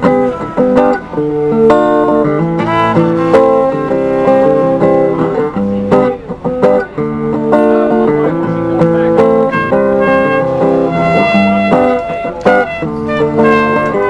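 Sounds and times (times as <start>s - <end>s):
guitar playing chords: 0.0s - 14.0s.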